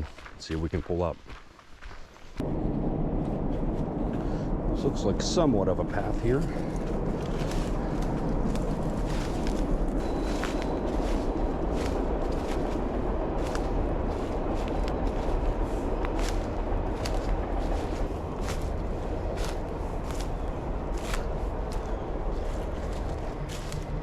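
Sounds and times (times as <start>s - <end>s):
footsteps crunching through leaves: 0.0s - 2.4s, 6.0s - 24.0s
steady low rushing noise: 2.4s - 24.0s.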